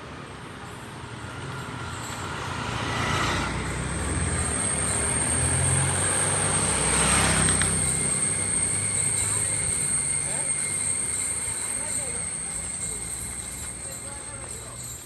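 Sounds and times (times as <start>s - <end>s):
motor scooter passing by: 0.2s - 13.8s.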